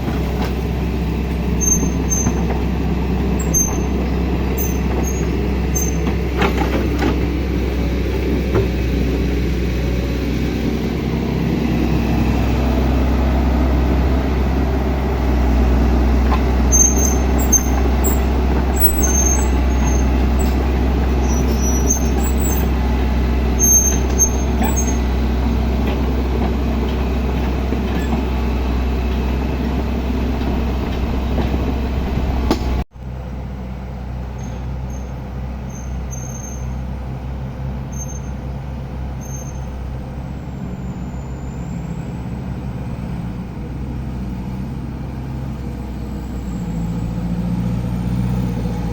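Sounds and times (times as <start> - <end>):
heavy diesel engine rumbling: 0.0 - 48.9.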